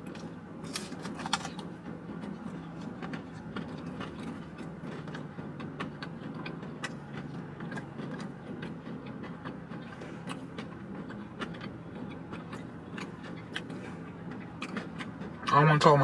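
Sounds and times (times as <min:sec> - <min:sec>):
chewing crispy food: 0:00.0 - 0:15.8
low car cabin hum: 0:00.0 - 0:16.0.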